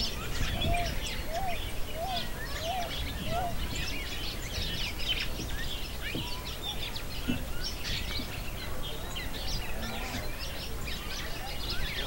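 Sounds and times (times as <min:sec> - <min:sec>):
flock of birds chirping: 0:00.0 - 0:12.0.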